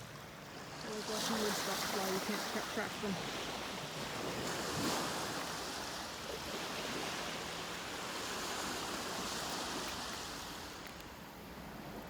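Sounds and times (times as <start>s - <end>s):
small waves washing onto beach: 0.0s - 12.0s.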